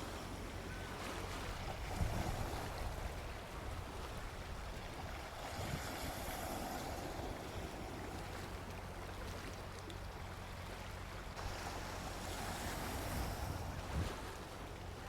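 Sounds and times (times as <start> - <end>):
sea waves washing onto beach: 0.0 - 10.1, 11.4 - 15.0.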